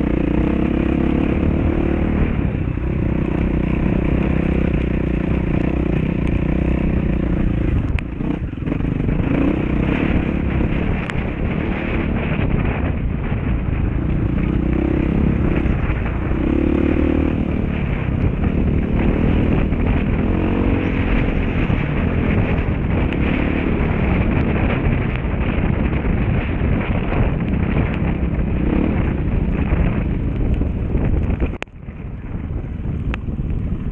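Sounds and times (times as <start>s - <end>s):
dirt bike engine revving: 0.0s - 30.6s
wind buffeting microphone: 0.0s - 33.9s.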